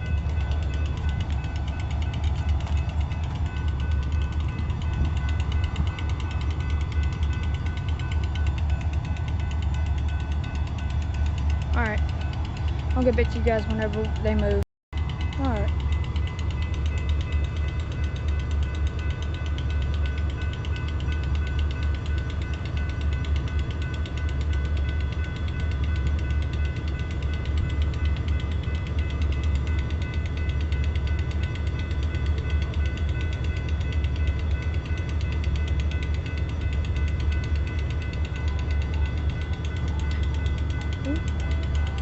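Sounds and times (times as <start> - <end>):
crossing signal bell ringing: 0.0 - 42.0.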